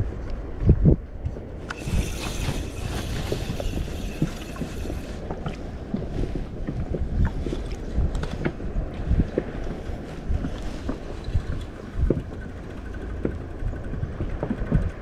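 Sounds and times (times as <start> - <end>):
wind on microphone: 0.0 - 15.0
small waves slapping boat hull: 1.6 - 15.0.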